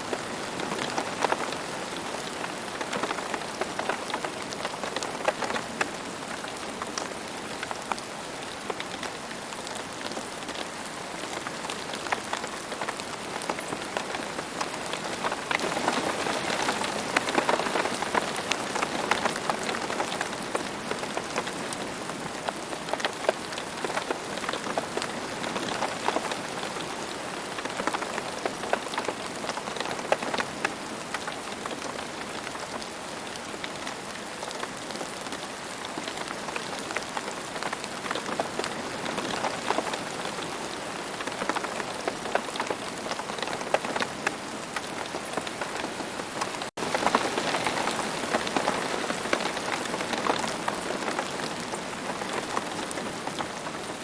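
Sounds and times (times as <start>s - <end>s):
rain on hard surface: 0.0s - 54.0s.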